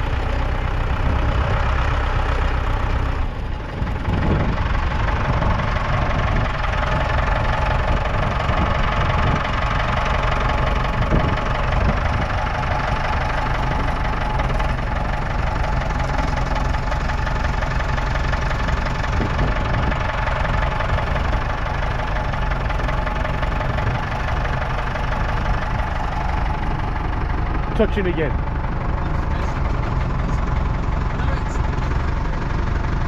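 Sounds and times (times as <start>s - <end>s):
diesel tractor engine running: 0.0s - 33.0s.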